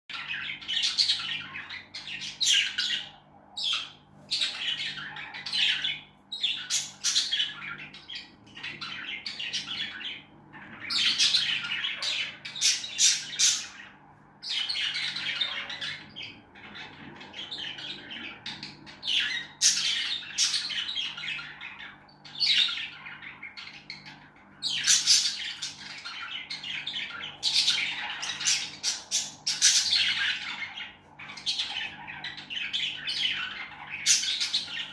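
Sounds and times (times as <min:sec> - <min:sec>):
faint low hum: 0:00.1 - 0:34.9
lovebirds chattering and squawking: 0:00.1 - 0:34.9.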